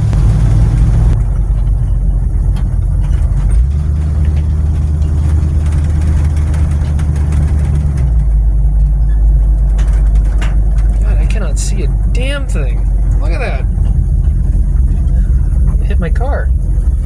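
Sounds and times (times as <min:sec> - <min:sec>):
car engine running: 0:00.0 - 0:17.0
road noise inside car: 0:00.0 - 0:17.0.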